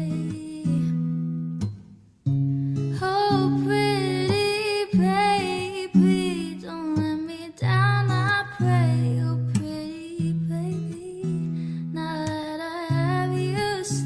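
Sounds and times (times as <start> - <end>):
woman singing: 0.0 - 1.3, 2.9 - 14.0
acoustic guitar: 0.0 - 14.0.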